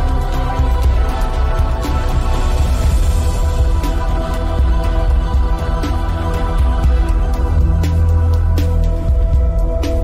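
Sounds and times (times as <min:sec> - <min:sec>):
background music with pulsing bass: 0:00.0 - 0:10.0.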